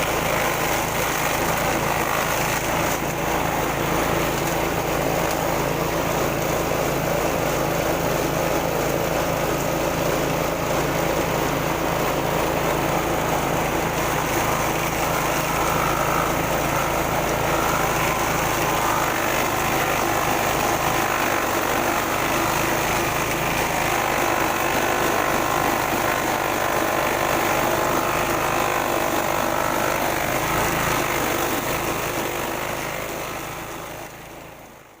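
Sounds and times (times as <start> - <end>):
grass chopper machine rattling: 0.0 - 35.0.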